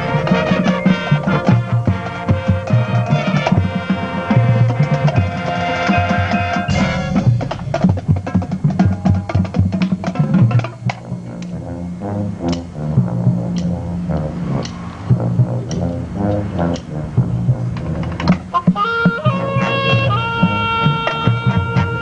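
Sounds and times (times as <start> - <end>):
horns holding chords: 0.0 - 22.0
marching drums: 0.0 - 22.0.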